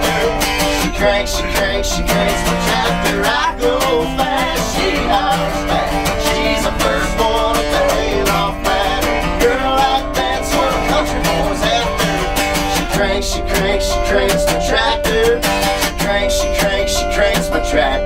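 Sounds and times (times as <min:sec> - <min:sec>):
resonator guitar: 0:00.0 - 0:18.0
strummed acoustic guitar: 0:00.0 - 0:18.0
voices singing: 0:00.0 - 0:18.0.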